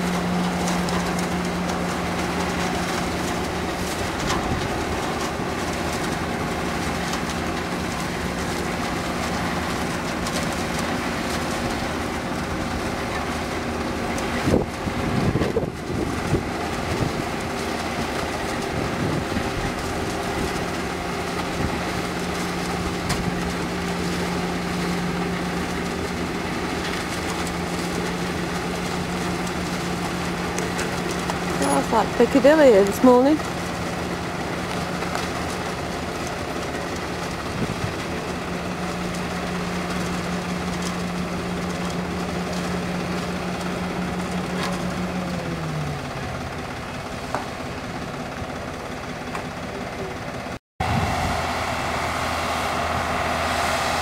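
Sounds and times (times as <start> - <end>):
engines humming: 0.0 - 54.0.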